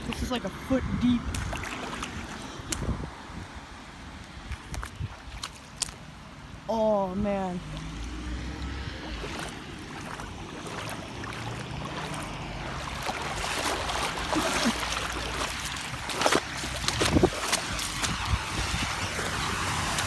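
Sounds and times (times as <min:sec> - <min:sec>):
sharp water splashes: 0:00.0 - 0:06.7, 0:07.3 - 0:20.0
floodwater running and splashing: 0:00.0 - 0:20.0.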